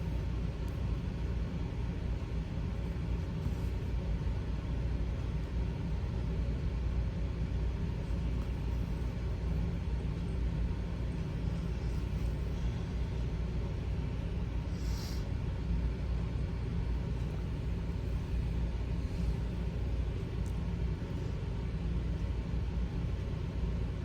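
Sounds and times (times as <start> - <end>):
low rumble of background noise: 0.0 - 24.0.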